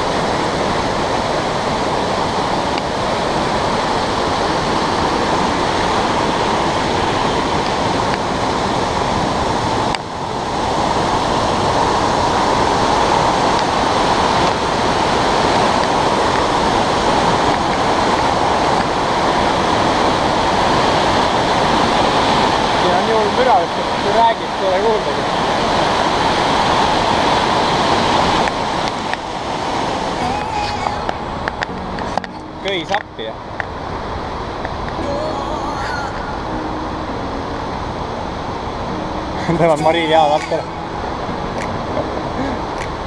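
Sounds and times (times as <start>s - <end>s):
river rushing over boulders: 0.0s - 43.0s.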